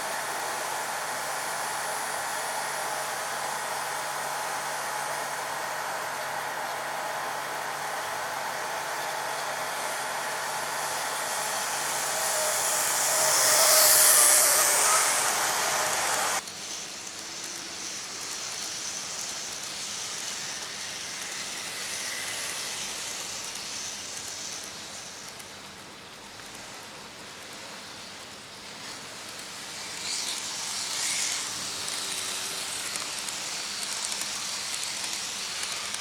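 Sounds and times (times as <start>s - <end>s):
model train running on track: 0.0s - 36.0s.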